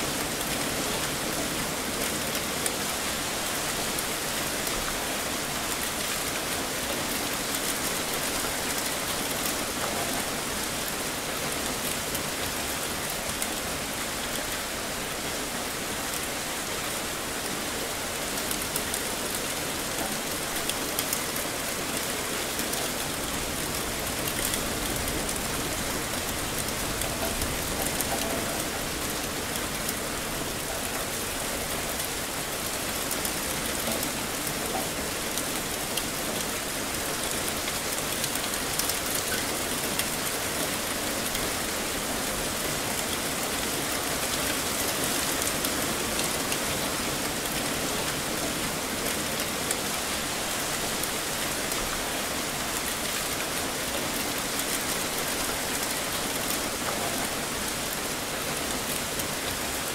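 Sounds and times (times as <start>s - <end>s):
heavy rain falling: 0.0s - 59.9s
sharp ticks of raindrops: 0.1s - 59.9s.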